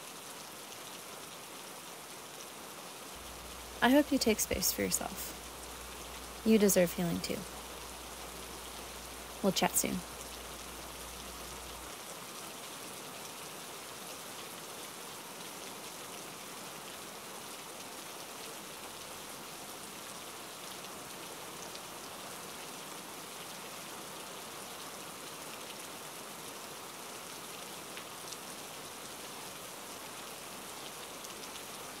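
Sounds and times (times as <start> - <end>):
rain on a windshield: 0.0 - 32.0.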